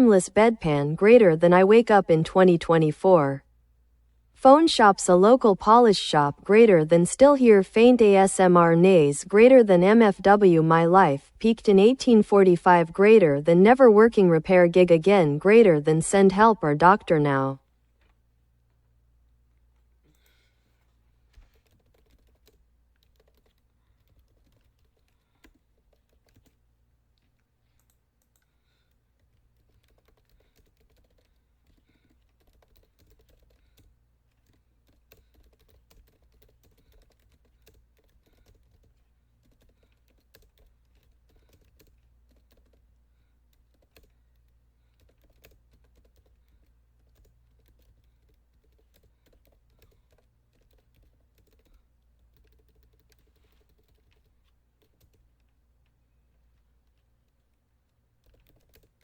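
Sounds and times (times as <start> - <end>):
keyboard typing: 0.0 - 3.4, 4.4 - 18.2, 21.3 - 26.6, 27.2 - 59.0.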